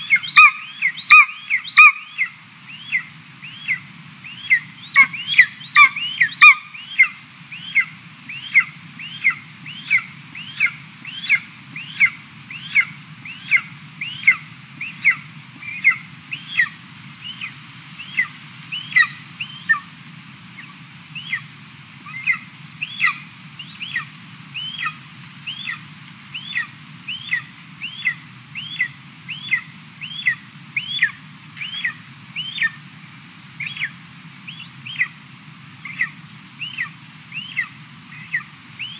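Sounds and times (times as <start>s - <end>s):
eaglet begging calls: 0.0s - 19.9s, 20.6s - 21.5s, 22.1s - 32.8s, 33.6s - 35.2s, 35.8s - 38.9s
steady low hum: 0.0s - 38.9s.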